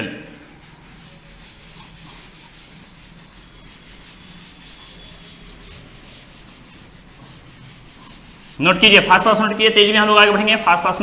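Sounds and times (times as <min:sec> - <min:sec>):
duster wiping blackboard: 0:00.0 - 0:11.0.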